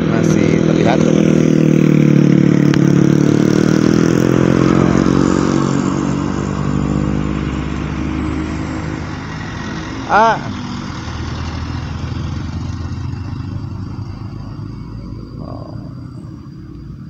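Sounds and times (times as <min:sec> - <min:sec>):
vehicle engine pulling away: 0:00.0 - 0:17.0.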